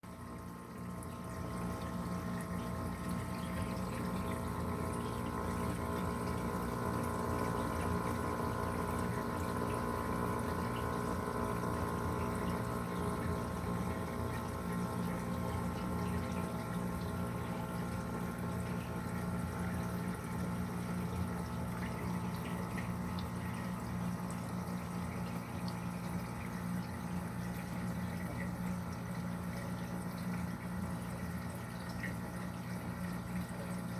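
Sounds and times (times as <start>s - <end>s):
pump humming: 0.0s - 33.9s.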